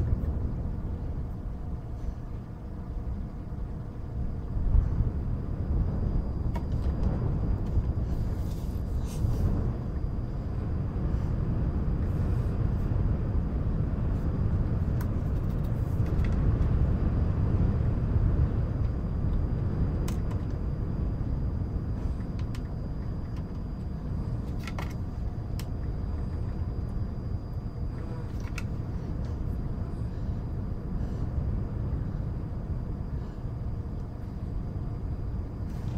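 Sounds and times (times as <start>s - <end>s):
low rumbling wind: 0.0s - 35.9s.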